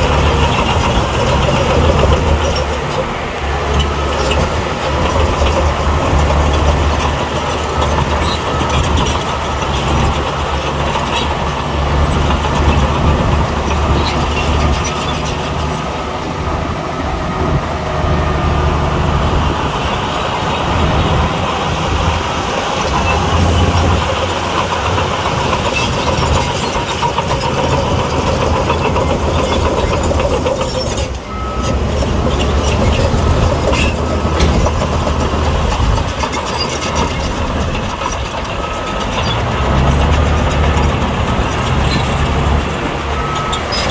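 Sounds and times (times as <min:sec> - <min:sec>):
metallic clatter of tracks: 0:00.0 - 0:16.4, 0:19.3 - 0:43.9
bulldozer diesel engine under load: 0:00.0 - 0:43.9.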